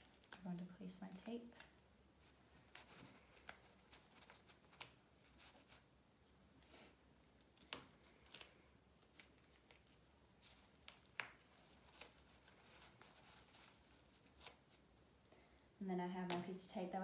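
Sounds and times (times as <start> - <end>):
faint rustling: 0.0 - 15.5.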